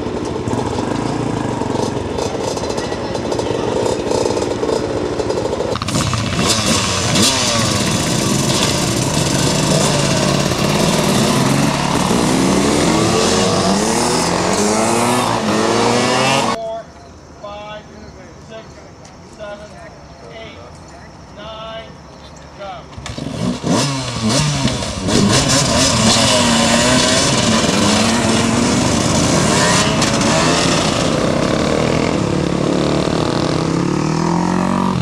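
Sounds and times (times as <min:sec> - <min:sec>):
dirt bike engines idling: 0:00.0 - 0:35.0
dirt bikes revving and pulling away: 0:00.0 - 0:35.0.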